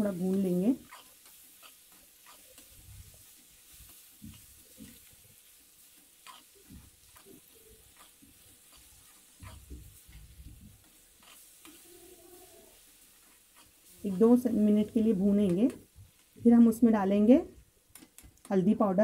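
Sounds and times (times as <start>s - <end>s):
spatula scraping a pan: 0.0s - 15.2s
onions frying in a pan: 0.0s - 19.0s.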